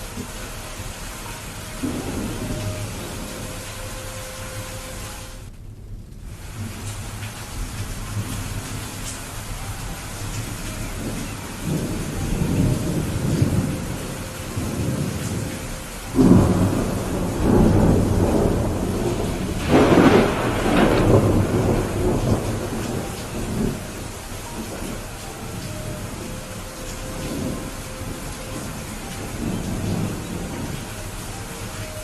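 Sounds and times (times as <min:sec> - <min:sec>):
thunder rumbling and cracking: 0:00.0 - 0:03.9, 0:04.6 - 0:32.0
heavy rain: 0:00.0 - 0:32.0.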